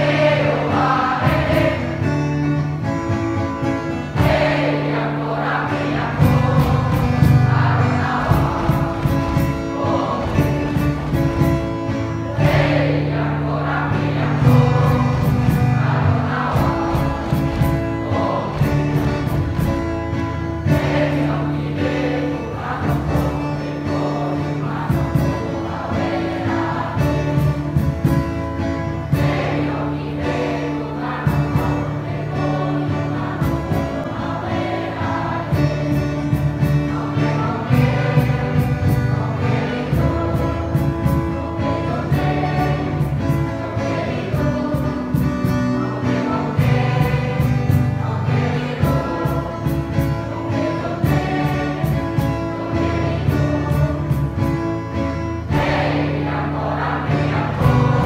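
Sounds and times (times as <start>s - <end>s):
children's choir singing: 0.0s - 58.0s
musical accompaniment with beat: 0.0s - 58.0s.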